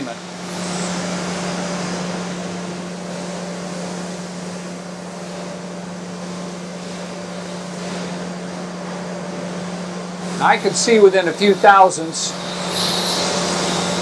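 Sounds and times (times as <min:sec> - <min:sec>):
surface grinder running: 0:00.0 - 0:14.0.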